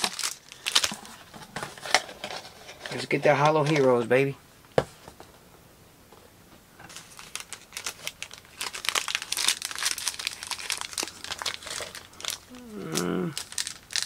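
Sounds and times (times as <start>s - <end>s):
foil card packs crinkling: 0.0s - 4.1s, 6.9s - 14.0s.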